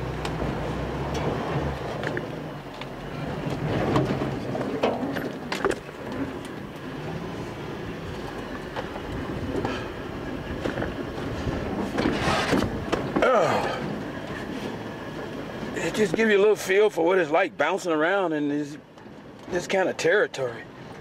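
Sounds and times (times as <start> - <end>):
vehicle rumble inside cab: 0.0 - 21.0.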